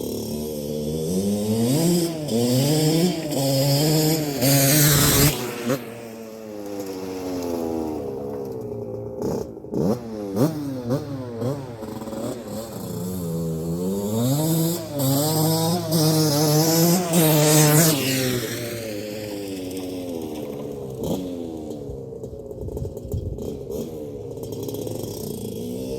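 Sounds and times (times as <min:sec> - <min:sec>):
two-stroke engine revving: 0:00.0 - 0:25.9.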